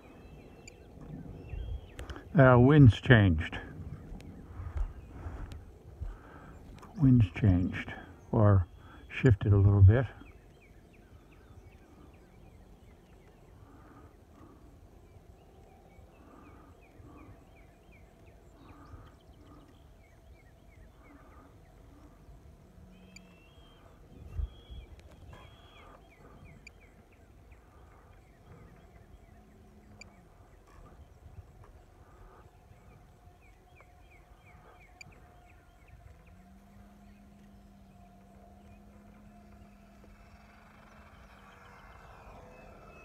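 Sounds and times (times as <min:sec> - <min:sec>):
faint steady hum: 0:00.0 - 0:43.0
soft animal calls: 0:06.1 - 0:43.0.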